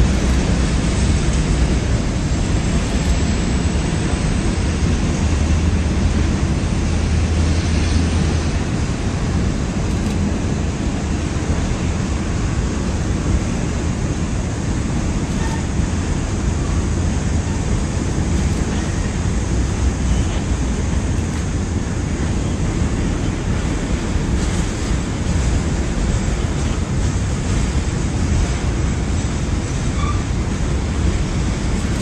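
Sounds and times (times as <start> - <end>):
train wheels rumbling on bridge: 0.0 - 32.0.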